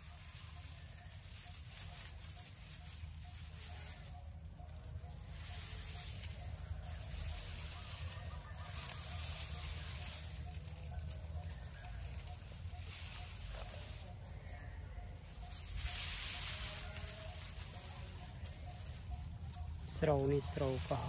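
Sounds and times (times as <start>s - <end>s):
combine harvester engine rumble: 0.0s - 21.0s.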